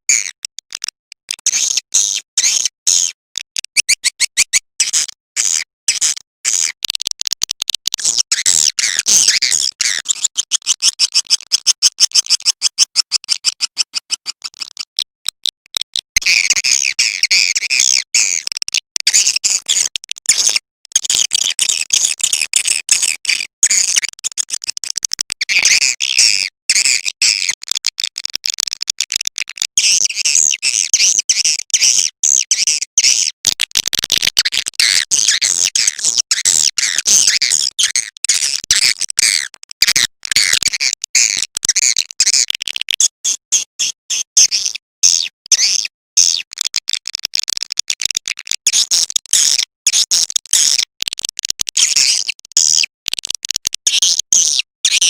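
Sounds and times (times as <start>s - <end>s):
recorded swiftlet calls clicking: 0.1s - 55.0s.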